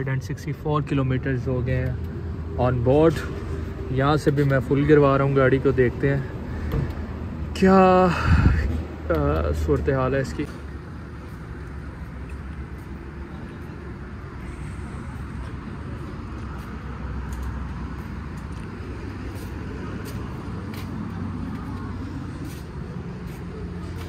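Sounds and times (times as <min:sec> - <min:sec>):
low hum of vehicles running: 0:00.0 - 0:24.0
traffic noise: 0:00.0 - 0:24.0.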